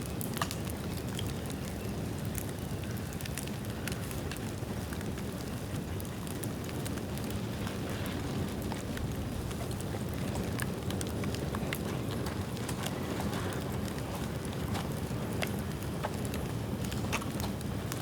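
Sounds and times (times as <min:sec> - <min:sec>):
bamboo bonfire crackling: 0:00.0 - 0:18.0.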